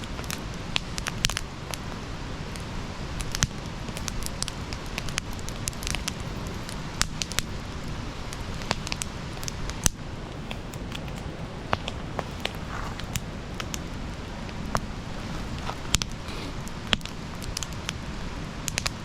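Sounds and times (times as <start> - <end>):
campfire crackling and popping: 0.0 - 19.0
low rumble of flames: 0.0 - 19.0.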